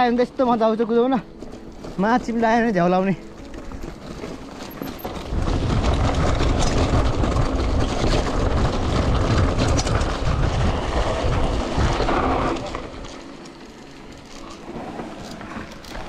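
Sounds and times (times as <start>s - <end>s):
bike rattles and ticks: 0.0s - 16.0s
mountain bike rumbling on trail: 0.0s - 16.0s.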